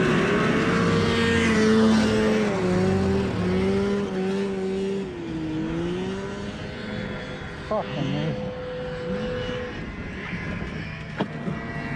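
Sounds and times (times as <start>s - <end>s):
snowmobile engine at low revs: 0.0s - 11.9s.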